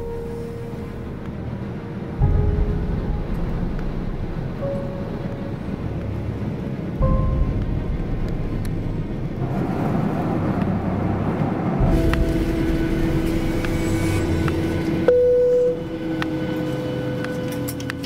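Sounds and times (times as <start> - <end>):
engine whine tones: 0.0 - 18.0
jet engine and air rumble: 0.0 - 18.0.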